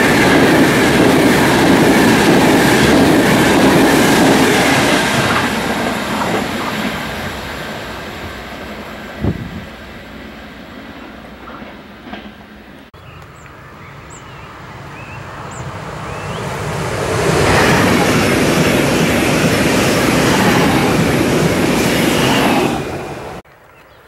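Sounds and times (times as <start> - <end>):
train passing: 0.0 - 23.4.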